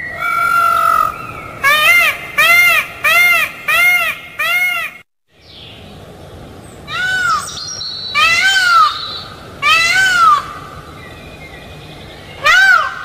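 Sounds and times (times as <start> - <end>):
peacock calling: 0.0 - 5.0, 6.7 - 13.0.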